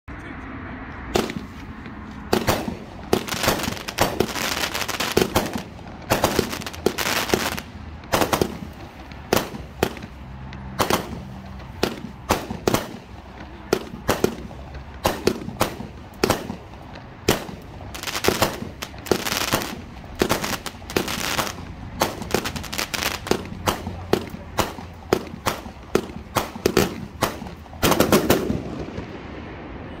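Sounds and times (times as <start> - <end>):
fireworks popping and banging: 1.1 - 29.4.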